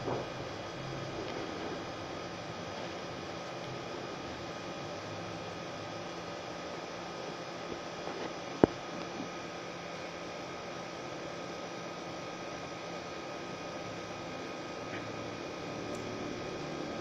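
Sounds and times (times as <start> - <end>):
steady electrical hum with hiss: 0.0 - 17.0.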